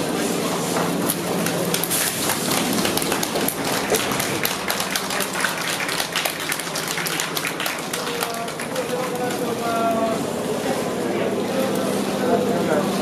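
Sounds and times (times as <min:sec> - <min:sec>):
crowd murmur: 0:00.0 - 0:13.0.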